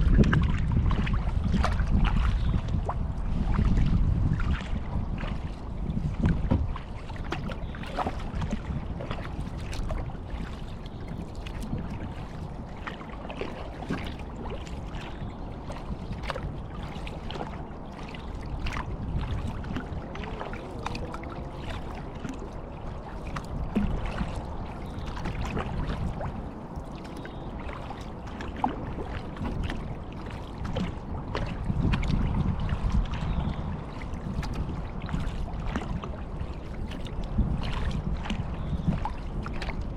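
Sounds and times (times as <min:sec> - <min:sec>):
paddle water splashing: 0:00.0 - 0:39.9
wind rumble on microphone: 0:00.0 - 0:39.9.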